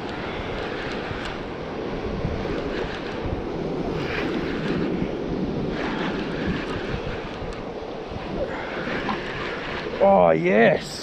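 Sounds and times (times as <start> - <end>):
surf washing on rocks: 0.0 - 11.0
wind buffeting microphone: 0.0 - 11.0.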